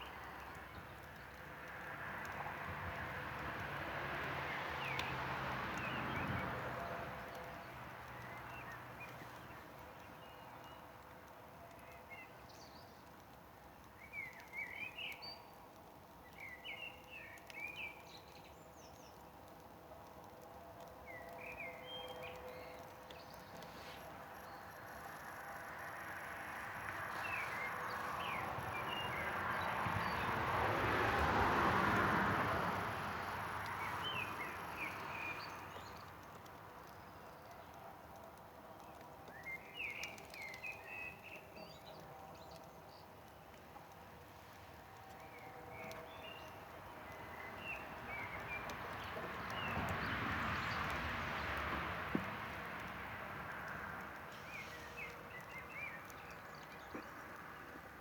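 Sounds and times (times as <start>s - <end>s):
small birds chirping: 7.2s - 30.4s, 32.7s - 51.6s, 53.4s - 58.0s.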